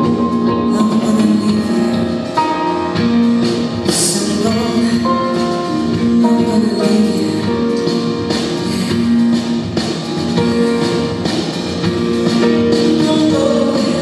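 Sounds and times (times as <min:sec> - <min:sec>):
drum kit: 0:00.0 - 0:14.0
guitar: 0:00.0 - 0:14.0.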